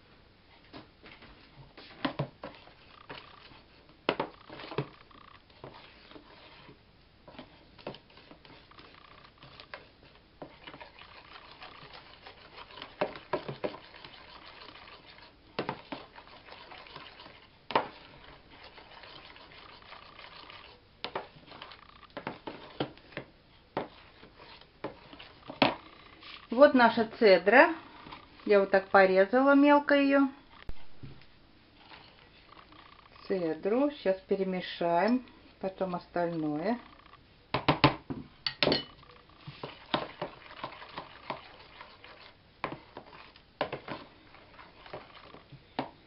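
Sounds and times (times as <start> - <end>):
spatula stirring batter: 0.5 - 46.0.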